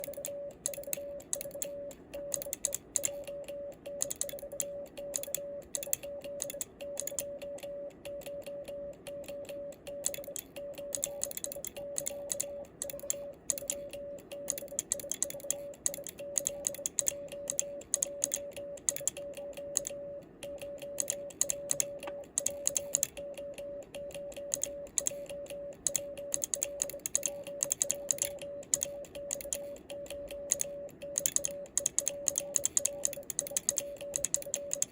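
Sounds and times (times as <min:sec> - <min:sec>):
morse code beeps: 0:00.0 - 0:34.9
morse key contacts clicking: 0:00.0 - 0:34.9.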